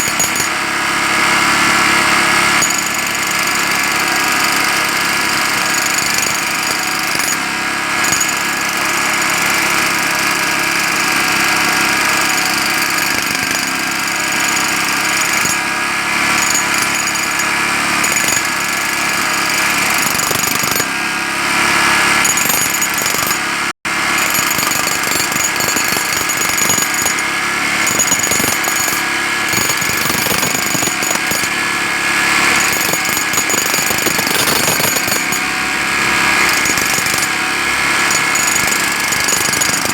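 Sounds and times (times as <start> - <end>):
jackhammer hammering: 0.0 - 39.9.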